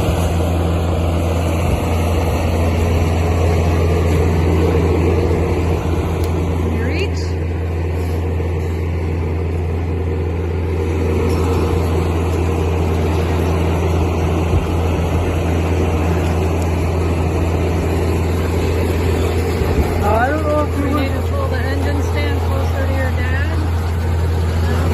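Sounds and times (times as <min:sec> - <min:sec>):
engine idling: 0:00.0 - 0:24.9.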